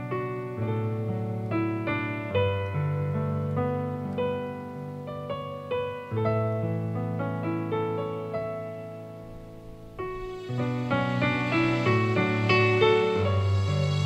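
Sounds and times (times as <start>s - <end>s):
gentle solo piano: 0.0s - 14.0s.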